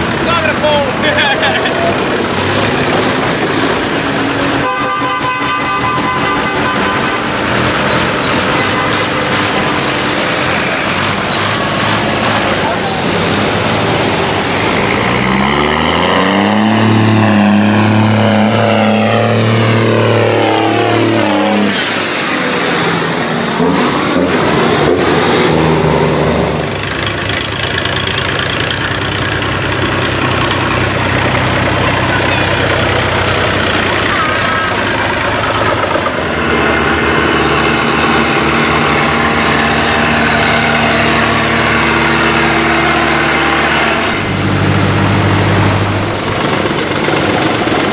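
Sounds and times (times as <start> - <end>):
tractor engines running steadily: 0.0 - 47.9
tractor engine accelerating past: 6.4 - 47.9.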